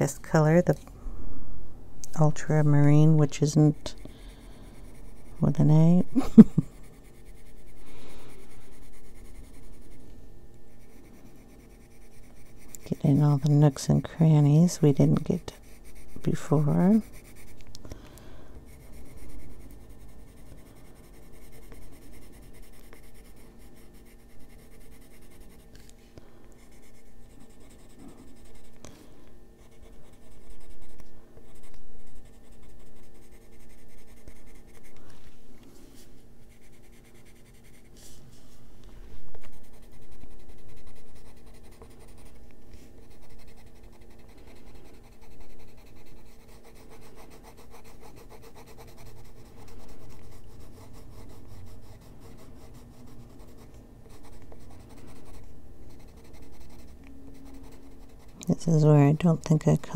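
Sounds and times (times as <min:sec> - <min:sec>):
steady low hum: 0:00.0 - 0:59.9
pencil scratching on paper: 0:03.4 - 0:10.1, 0:10.7 - 0:17.6, 0:18.7 - 0:25.8, 0:26.6 - 0:28.8, 0:29.6 - 0:35.0, 0:36.0 - 0:38.2, 0:39.4 - 0:59.4.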